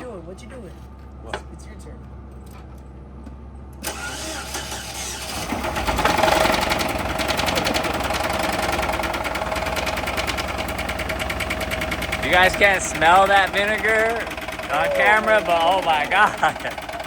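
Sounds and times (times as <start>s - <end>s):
car engine starting and idling: 2.2s - 17.0s.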